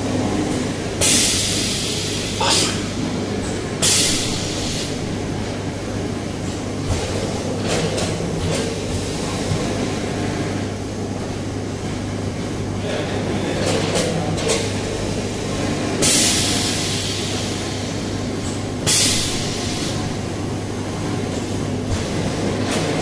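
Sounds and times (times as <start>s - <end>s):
packing machinery hum: 0.0s - 23.0s.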